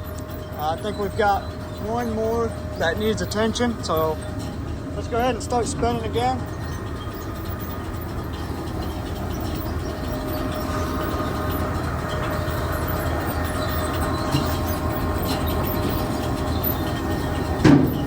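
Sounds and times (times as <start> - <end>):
bucket elevator rumbling clatter: 0.0 - 18.0
faint steady whine: 0.0 - 18.0.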